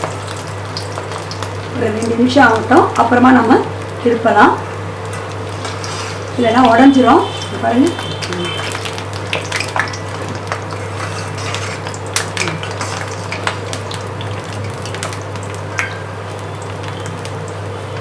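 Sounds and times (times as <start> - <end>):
meatballs sizzling in oil: 0.0 - 18.0.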